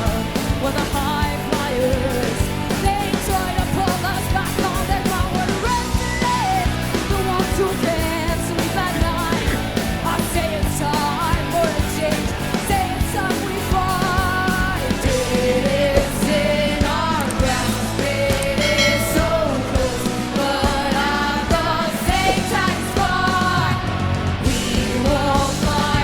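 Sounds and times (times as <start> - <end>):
rock band playing: 0.0 - 26.0
woman singing: 0.0 - 26.0.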